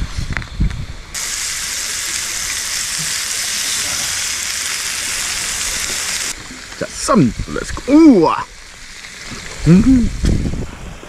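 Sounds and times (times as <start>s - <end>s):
meat sizzling in a pan: 1.2s - 10.6s.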